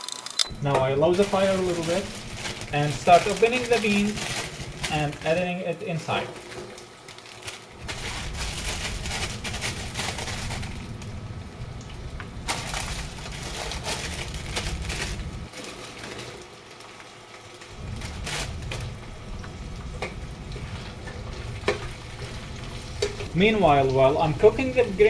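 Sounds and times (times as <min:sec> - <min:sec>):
frying in hot oil: 0:00.0 - 0:25.0.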